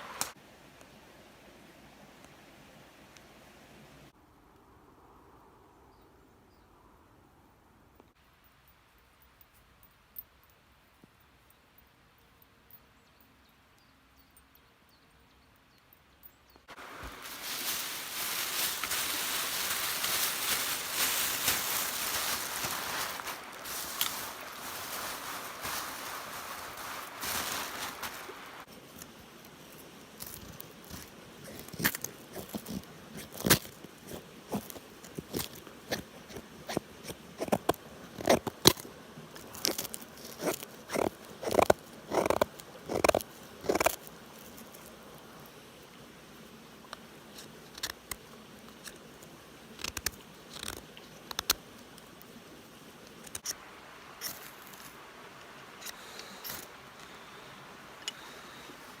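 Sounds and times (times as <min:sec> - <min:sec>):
steady hiss: 0:00.0 - 0:04.9, 0:16.6 - 0:59.0.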